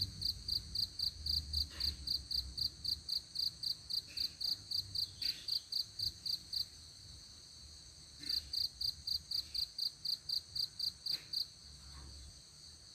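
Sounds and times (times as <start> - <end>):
high insect hum: 0.0 - 12.9
insects chirping: 0.0 - 12.9.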